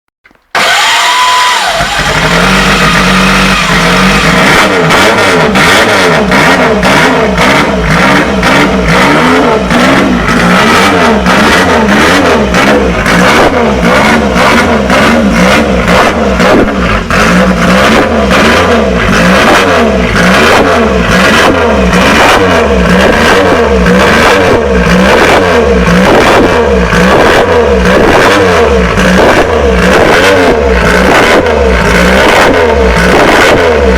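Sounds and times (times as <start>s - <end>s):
motorcycle engine revving: 0.5s - 33.9s.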